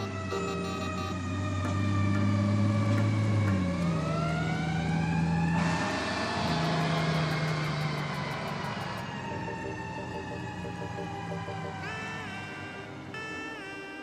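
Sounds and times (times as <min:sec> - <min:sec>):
fire truck siren wailing: 0:00.0 - 0:14.0.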